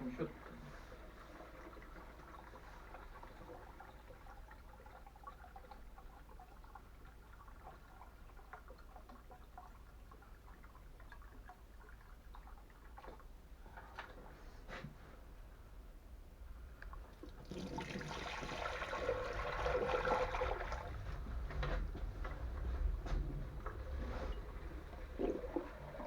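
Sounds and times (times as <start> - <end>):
water trickling and dripping: 0.1 - 14.4, 16.5 - 26.0.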